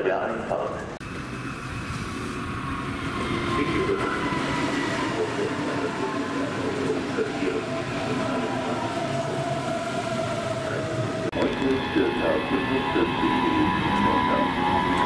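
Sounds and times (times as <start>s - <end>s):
train rumbling: 0.0s - 15.0s
high-pitched whine: 0.8s - 15.0s.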